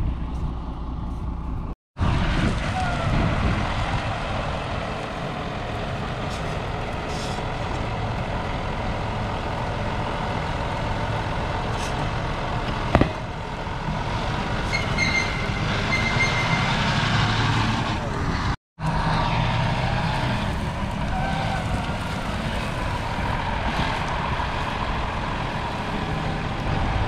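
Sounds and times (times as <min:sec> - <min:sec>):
tractor diesel engine rumbling: 0:00.0 - 0:27.0.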